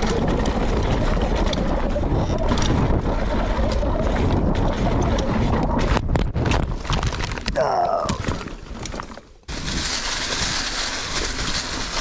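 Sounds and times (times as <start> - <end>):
bike rattling over rocks: 0.0 - 12.0
wind rushing over microphone: 0.0 - 12.0.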